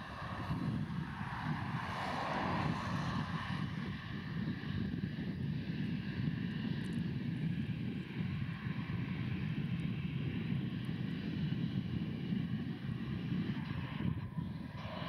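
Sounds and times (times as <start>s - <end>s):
jet engine rumble: 0.0s - 15.0s
jet engine whine: 0.0s - 15.0s.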